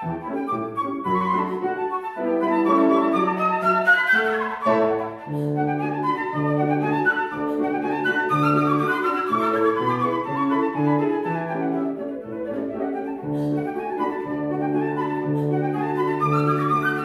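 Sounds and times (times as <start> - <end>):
flute playing quick runs: 0.0 - 17.0
grand piano chords: 0.0 - 17.0.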